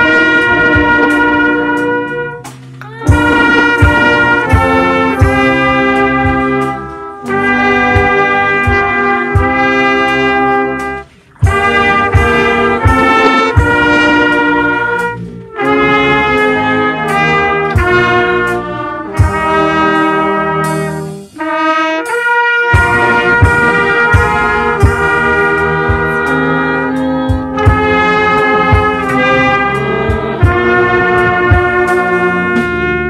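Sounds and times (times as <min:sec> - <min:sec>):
steady beat: 0:00.0 - 0:33.0
trumpets playing held notes: 0:00.0 - 0:33.0.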